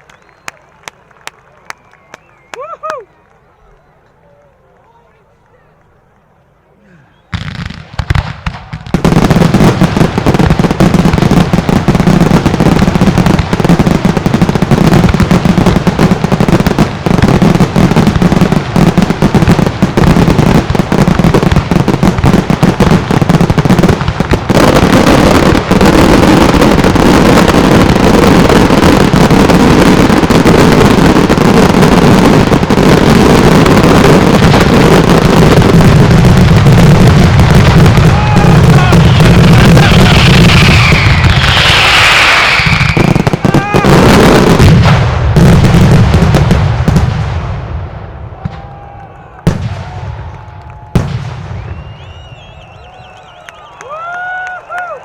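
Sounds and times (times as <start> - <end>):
firecracker barrage loud bangs: 7.3 - 53.0.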